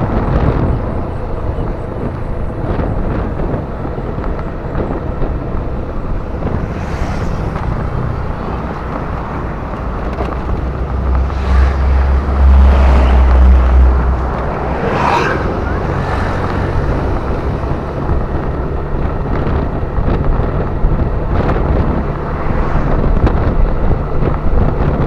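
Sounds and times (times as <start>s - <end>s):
low rumble: 0.0s - 25.0s
motorcycle engine running: 0.0s - 25.0s
road and wind noise: 0.0s - 25.0s.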